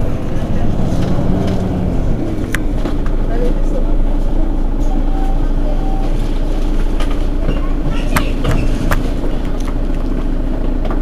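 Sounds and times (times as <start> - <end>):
diesel bus engine idling: 0.0 - 11.0.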